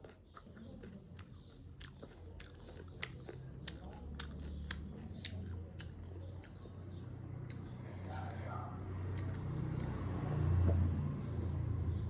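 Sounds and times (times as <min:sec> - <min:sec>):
crunchy chewing of puffed rice: 0:00.0 - 0:11.7.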